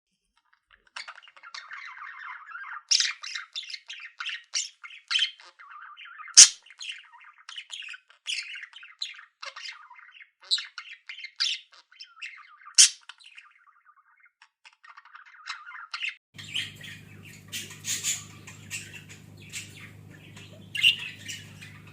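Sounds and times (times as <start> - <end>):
budgies chirping and chattering: 0.7 - 21.9.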